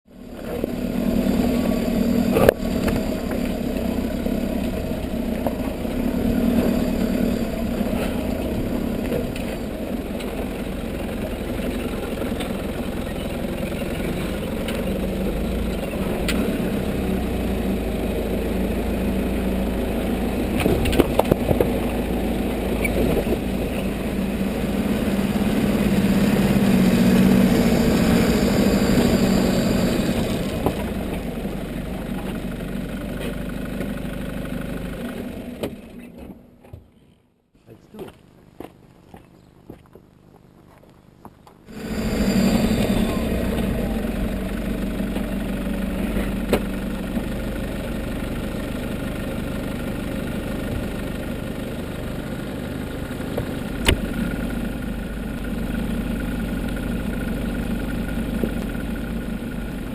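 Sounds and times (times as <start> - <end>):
engine running at low revs: 0.1 - 36.5, 41.7 - 59.9.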